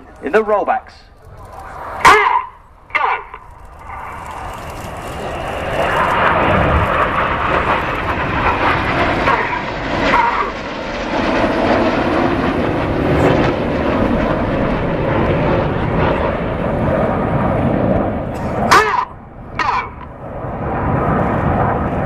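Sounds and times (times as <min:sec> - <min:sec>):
jets passing low overhead: 0:00.0 - 0:22.0.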